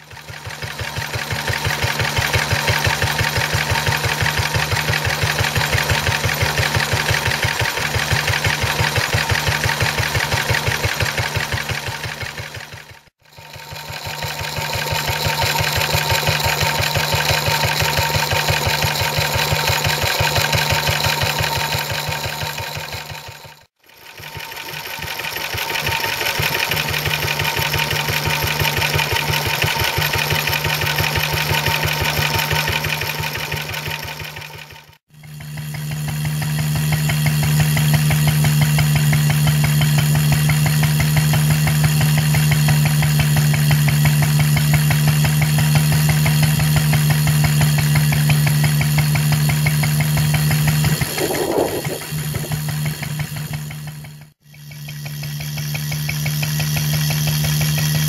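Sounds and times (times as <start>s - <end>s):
stationary engine clattering: 0.0s - 58.0s.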